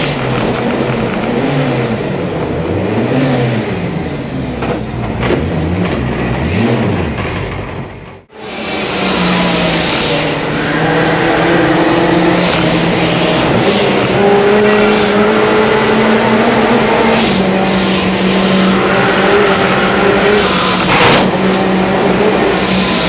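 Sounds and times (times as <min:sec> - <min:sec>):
race car engine running hard: 0:00.0 - 0:23.0.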